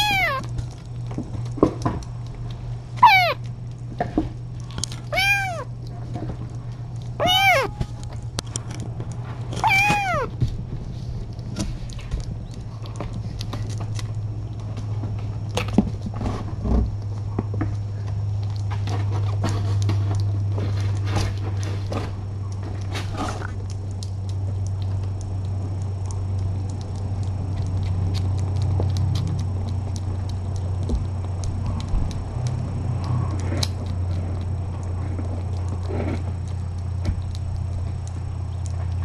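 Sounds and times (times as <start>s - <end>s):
kittens eating clicks and taps: 0.0s - 39.0s
steady low hum: 0.0s - 39.0s.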